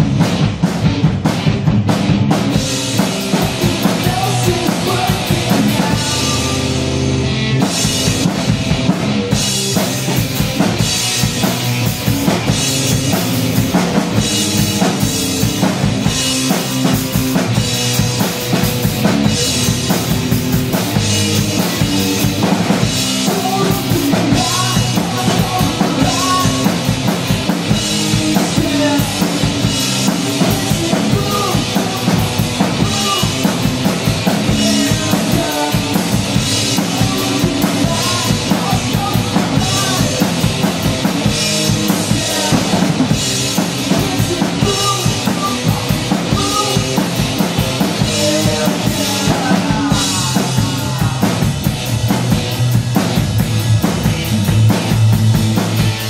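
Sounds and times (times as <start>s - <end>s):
drum kit beat: 0.0s - 56.0s
electric guitar: 0.0s - 56.0s.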